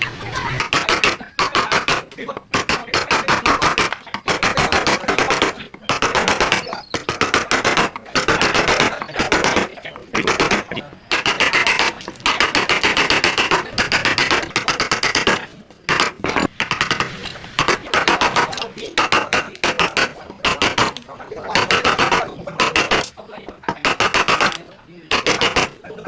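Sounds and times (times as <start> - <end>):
rapid knocking on wood: 0.0 - 26.0.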